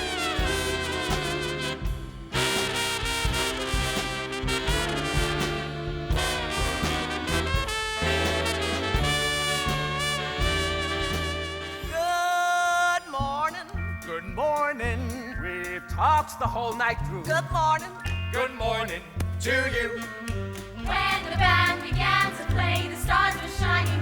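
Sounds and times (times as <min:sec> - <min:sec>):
swing big band music: 0:00.0 - 0:24.0.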